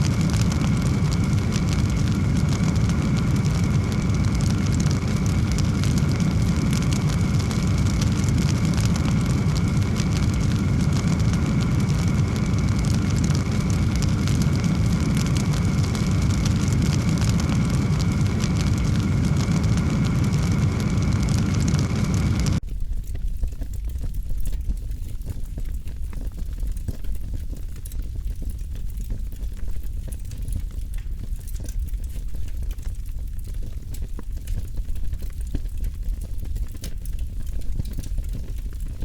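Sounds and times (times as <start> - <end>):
fire crackling: 0.0 - 39.0
wood fire roaring: 0.0 - 39.0.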